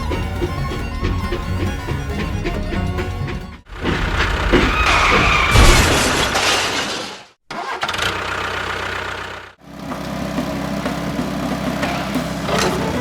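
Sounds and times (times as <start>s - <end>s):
engine running hum: 0.0s - 5.2s, 7.7s - 13.0s.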